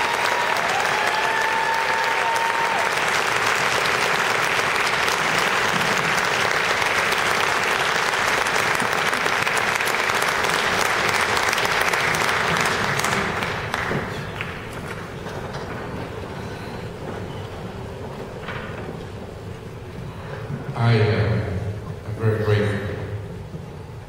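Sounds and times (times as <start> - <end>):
audience applauding: 0.0 - 20.6.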